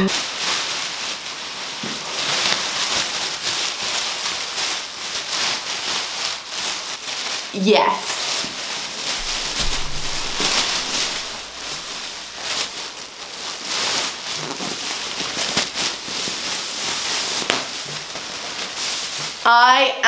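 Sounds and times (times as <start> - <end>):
plastic bag rustling and crackling: 0.0 - 19.5.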